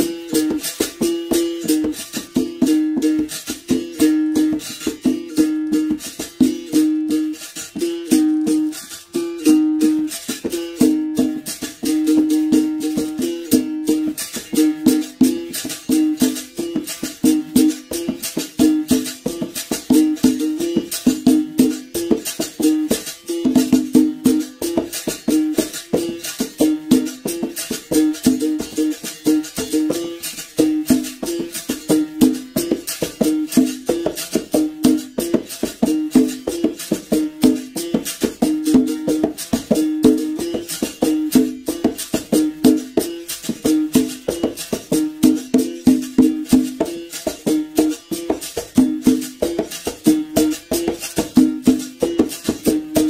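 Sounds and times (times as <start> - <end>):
shaker rattle: 0.0 - 53.0.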